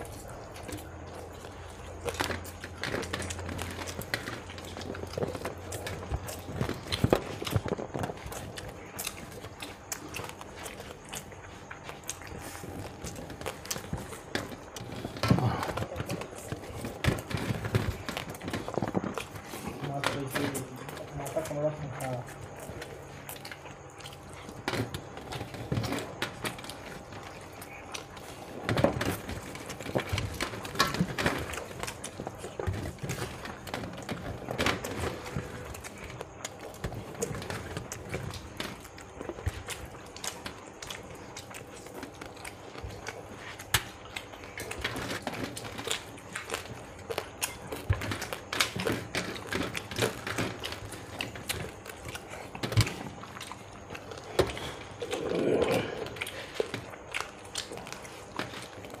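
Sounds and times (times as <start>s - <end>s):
eating by hand from plates: 0.0s - 59.0s.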